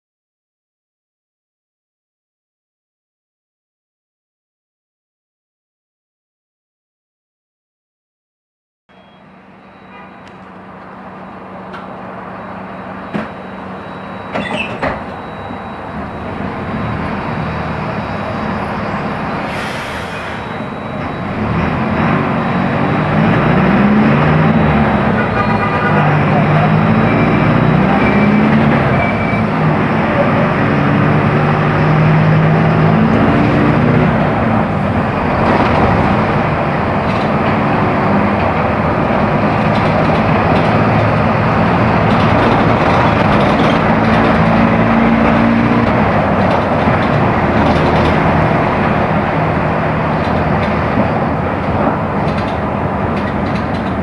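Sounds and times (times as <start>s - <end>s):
road noise: 8.9s - 54.0s
bus diesel engine running: 9.0s - 54.0s.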